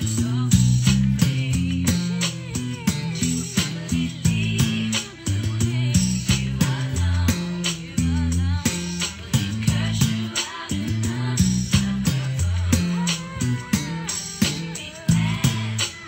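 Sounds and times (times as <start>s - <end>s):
fingerstyle electric bass: 0.0s - 16.0s
r and b track with singing: 0.0s - 16.0s.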